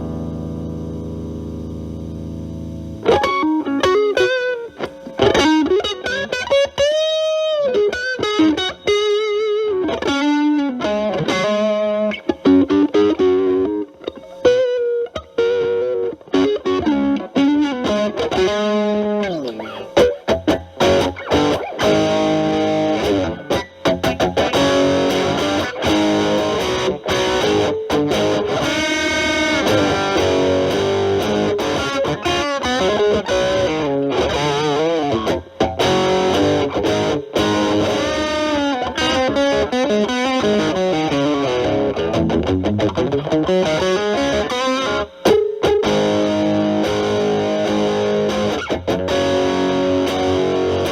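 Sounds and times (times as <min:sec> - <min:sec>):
distorted electric guitar lead: 0:00.0 - 0:50.9.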